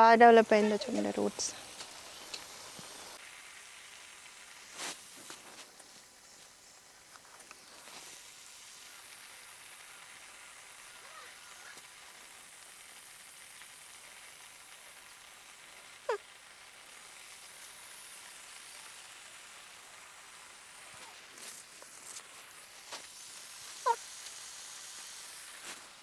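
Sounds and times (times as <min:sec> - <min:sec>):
high hiss of farm ambience: 0:00.0 - 0:26.0.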